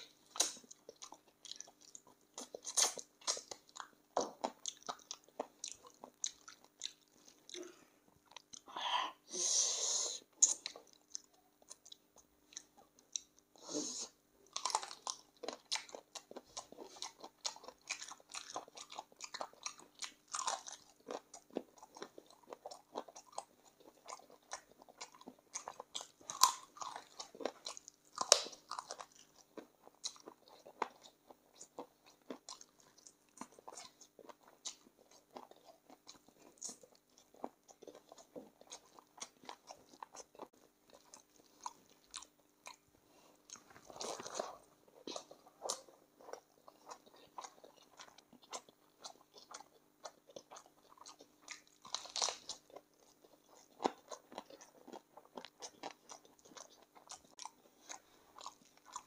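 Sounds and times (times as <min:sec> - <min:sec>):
wet chewing and crunching: 0:00.0 - 0:08.7, 0:10.4 - 0:13.6, 0:14.4 - 0:59.0.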